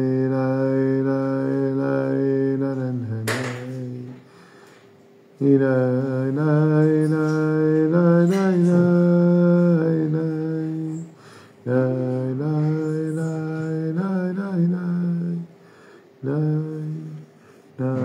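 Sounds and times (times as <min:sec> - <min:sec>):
man singing wordless melody: 0:00.0 - 0:04.3, 0:05.4 - 0:15.6, 0:16.2 - 0:18.0.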